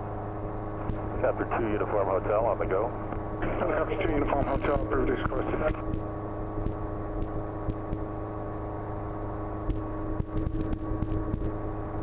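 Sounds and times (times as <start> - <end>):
helicopter engine and rotors droning: 0.0 - 12.0.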